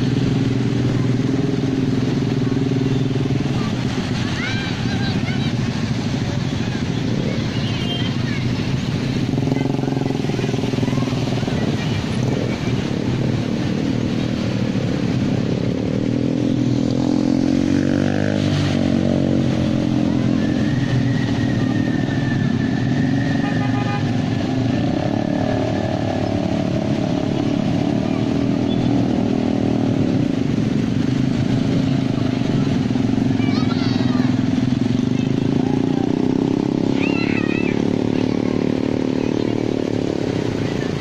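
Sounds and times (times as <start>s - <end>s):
motorbike engine revving: 0.0s - 41.0s
motorbike engines running: 0.0s - 41.0s.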